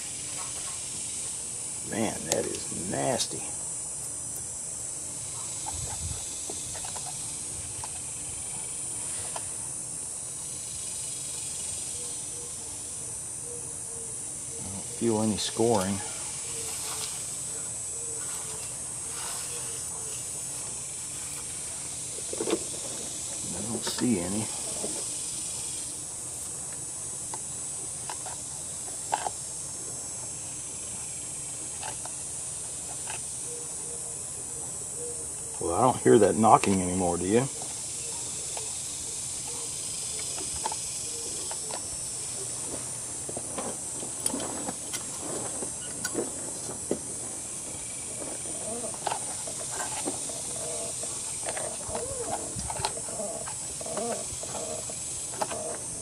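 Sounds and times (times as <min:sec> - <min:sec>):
high-pitched hiss: 0:00.0 - 0:56.0.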